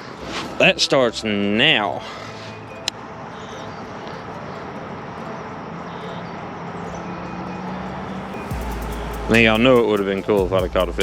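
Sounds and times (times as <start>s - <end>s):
distant engine hum: 0.0s - 11.0s
steady outdoor hiss: 0.0s - 11.0s.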